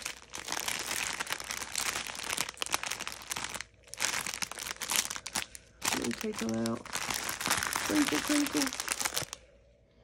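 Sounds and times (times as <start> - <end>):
plastic bags crinkling: 0.0 - 9.5.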